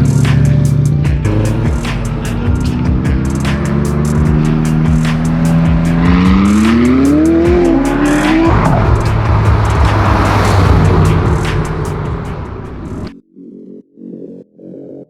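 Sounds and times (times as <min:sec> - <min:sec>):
car engine accelerating: 0:00.0 - 0:13.1
background music with steady beat: 0:00.0 - 0:14.7.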